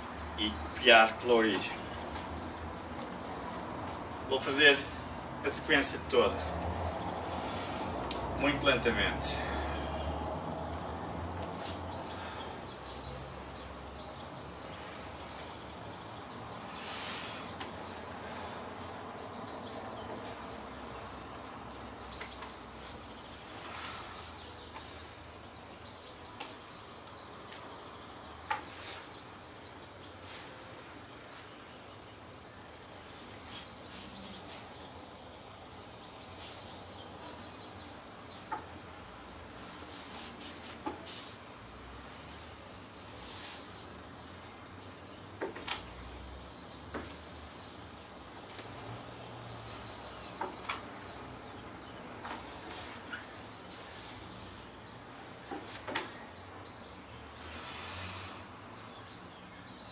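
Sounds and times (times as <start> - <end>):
distant birds chirping: 0.0 - 59.9.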